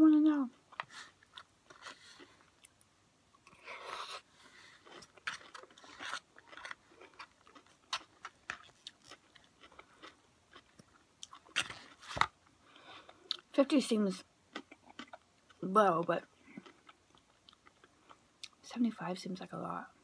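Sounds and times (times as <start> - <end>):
person chewing and crunching food: 0.6 - 13.5, 14.5 - 18.6.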